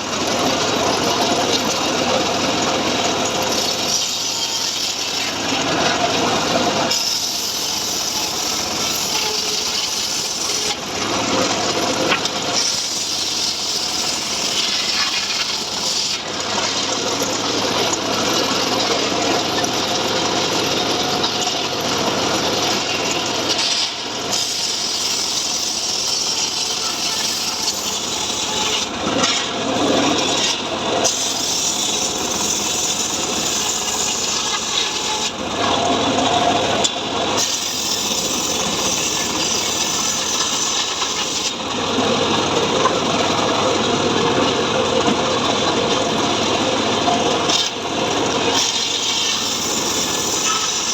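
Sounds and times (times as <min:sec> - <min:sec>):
saw rasping through log: 0:00.0 - 0:19.2, 0:22.9 - 0:35.7, 0:36.7 - 0:41.6, 0:45.7 - 0:50.9.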